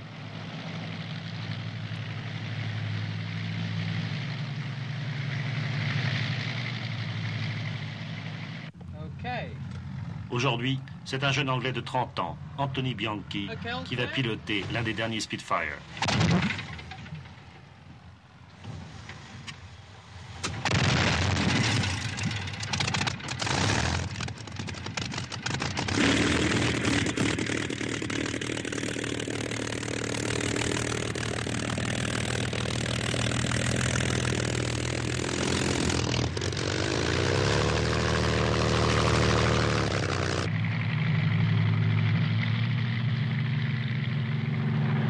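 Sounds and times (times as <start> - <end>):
aircraft engine starting and running: 0.0 - 45.0.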